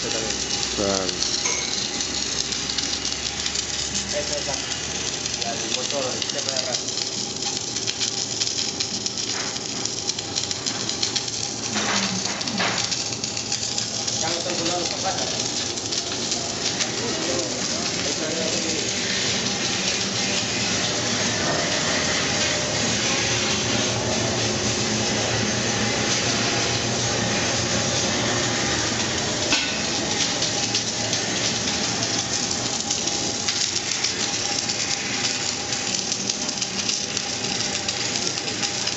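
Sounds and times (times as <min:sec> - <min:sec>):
machine hum: 0:00.0 - 0:38.9
welding crackling sizzle: 0:00.0 - 0:38.9.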